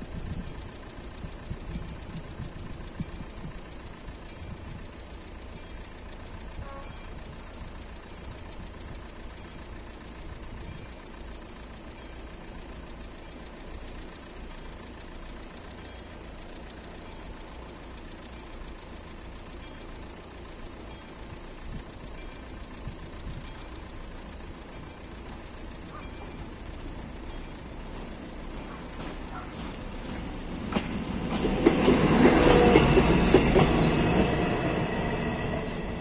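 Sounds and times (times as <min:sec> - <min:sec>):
vehicle engines idling: 0:00.0 - 0:36.0.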